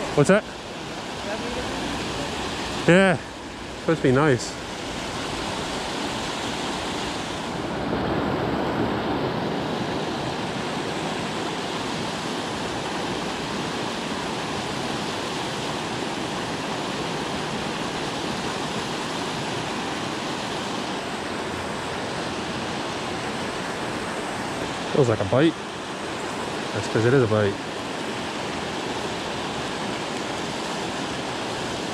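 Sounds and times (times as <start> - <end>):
water rushing over dam: 0.0 - 31.9.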